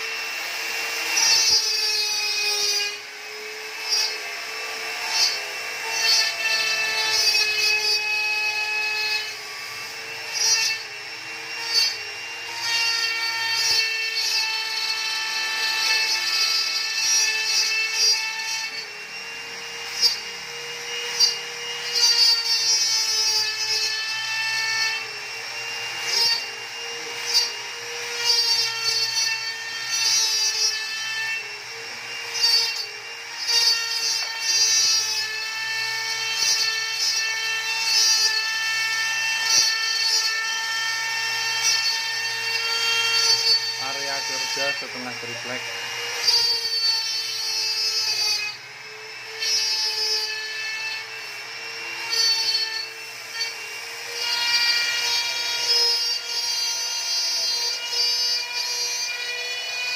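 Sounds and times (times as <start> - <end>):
router bit rasping through wood: 0.0 - 59.9
router spindle whining: 0.0 - 59.9.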